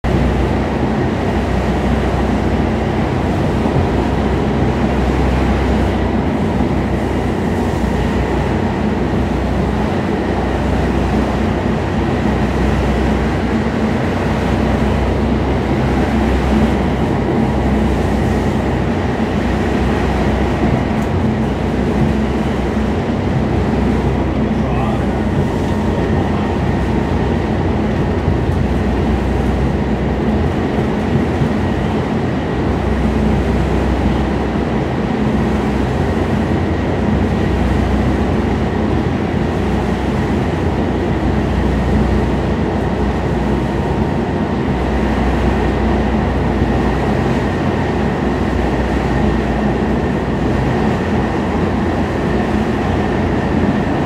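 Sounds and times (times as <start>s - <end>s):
subway wheels rumbling: 0.0s - 54.0s.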